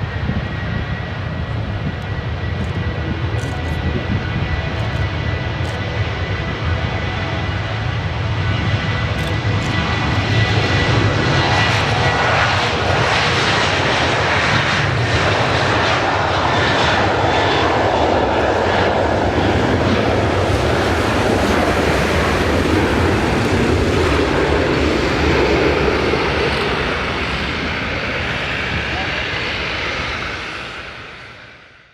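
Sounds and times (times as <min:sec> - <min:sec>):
jet engine rush: 0:00.0 - 0:31.9.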